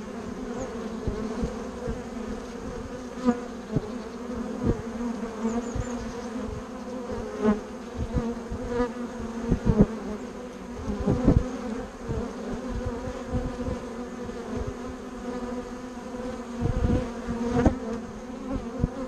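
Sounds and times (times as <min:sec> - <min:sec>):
bee flying past: 0:00.0 - 0:19.0
bees buzzing: 0:00.0 - 0:19.0.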